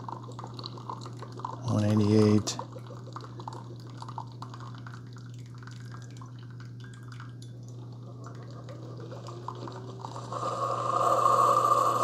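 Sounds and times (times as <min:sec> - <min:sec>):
small drips and splashes: 0:00.0 - 0:10.1
coffee trickling into a mug: 0:00.0 - 0:12.0
low steady hum: 0:00.0 - 0:12.0.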